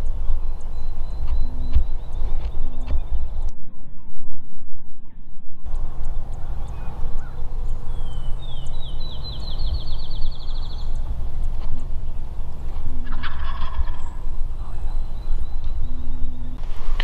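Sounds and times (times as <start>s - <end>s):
songbird trilling: 0.0s - 3.5s, 5.7s - 16.6s
wind rumble on microphone: 0.0s - 17.0s.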